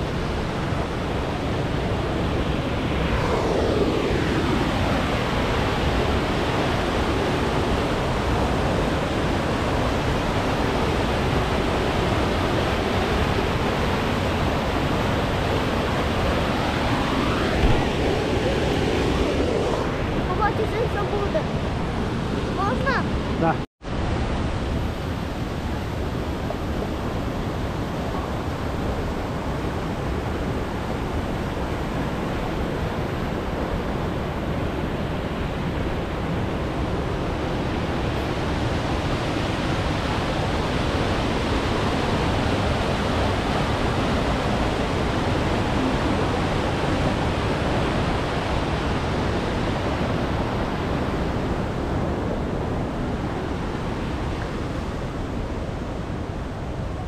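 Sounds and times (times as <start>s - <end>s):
fast-flowing water rushing: 0.0s - 57.0s.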